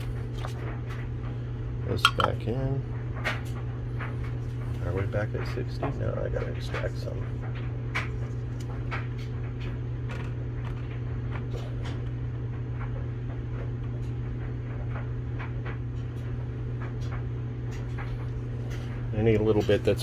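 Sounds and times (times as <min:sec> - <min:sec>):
low hum of shop equipment: 0:00.0 - 0:20.0.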